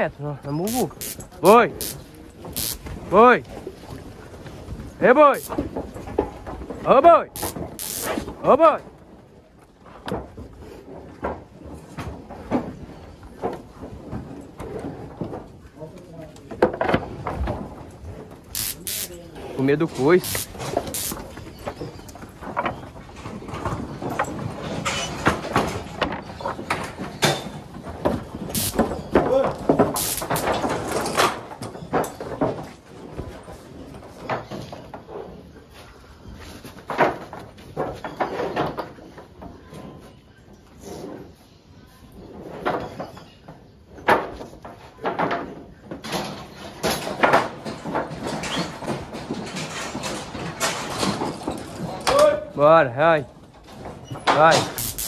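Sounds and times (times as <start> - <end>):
hooves clattering in chute: 0.0 - 41.4, 42.0 - 55.0.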